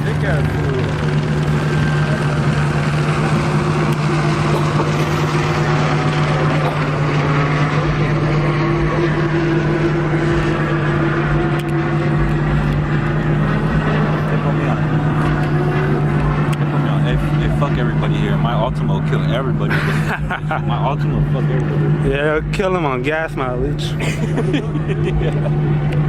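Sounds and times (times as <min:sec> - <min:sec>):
vehicle engine drone: 0:00.0 - 0:26.0.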